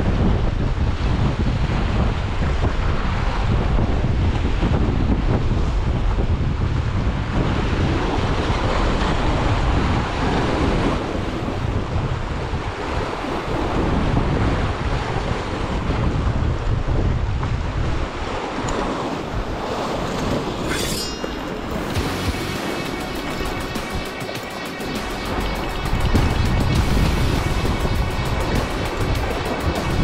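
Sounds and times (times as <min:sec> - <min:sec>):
wind buffeting microphone: 0:00.0 - 0:30.0
sea waves washing against rocks: 0:00.8 - 0:30.0.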